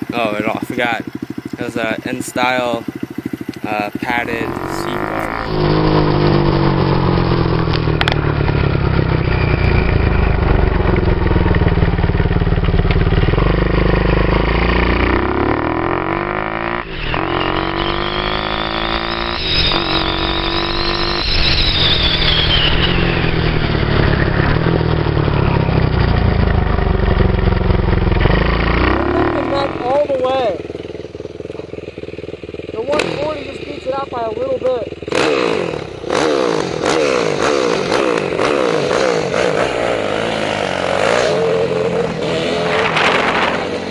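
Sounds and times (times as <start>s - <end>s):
dirt bike engine accelerating: 0.0s - 43.9s.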